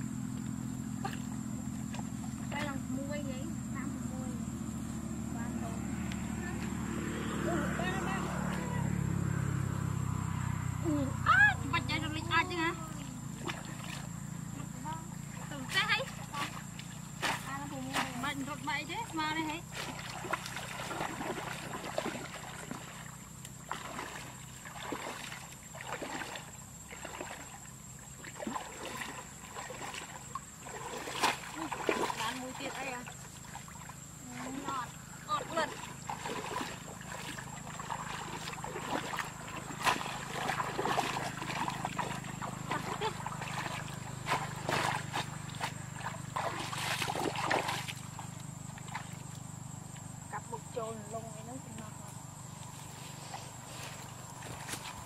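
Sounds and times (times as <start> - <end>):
people wading through muddy water: 0.0 - 55.0
steady low hum: 0.0 - 55.0.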